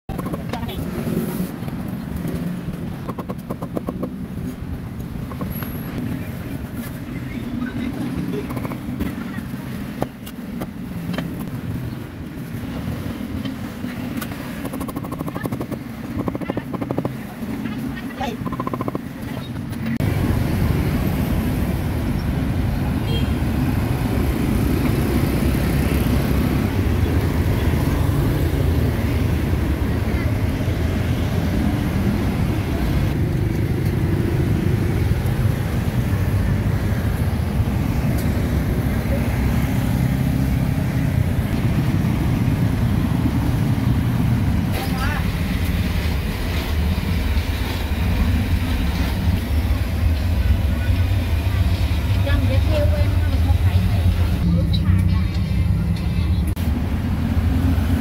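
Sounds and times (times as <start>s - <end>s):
street traffic rumble: 0.1s - 58.0s.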